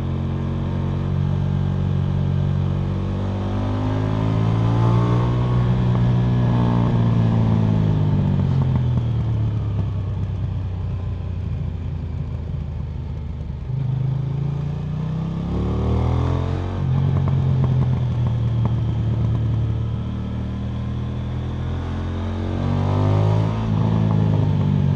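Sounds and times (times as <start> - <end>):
motorcycle engine and exhaust: 0.0 - 24.9.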